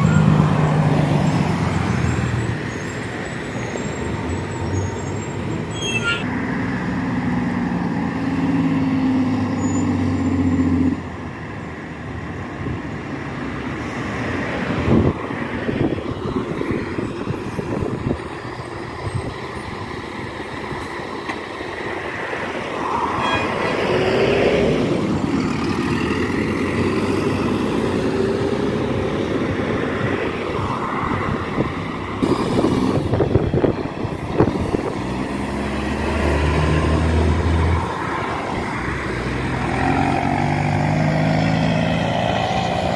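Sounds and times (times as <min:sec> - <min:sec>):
truck diesel engine droning: 0:00.0 - 0:11.3, 0:16.0 - 0:42.9
cars and trucks driving past: 0:00.0 - 0:42.9.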